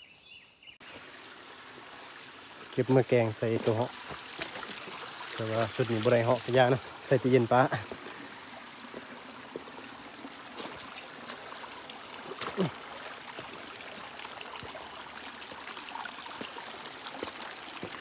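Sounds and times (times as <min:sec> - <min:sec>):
stream trickling over rocks: 0:00.8 - 0:18.0.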